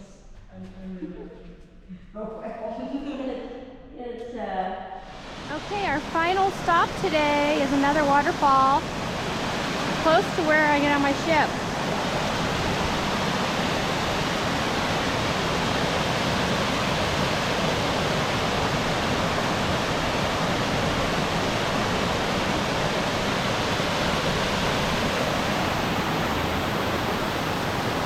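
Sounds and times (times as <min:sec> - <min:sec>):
waterfall rushing: 0:05.0 - 0:28.0.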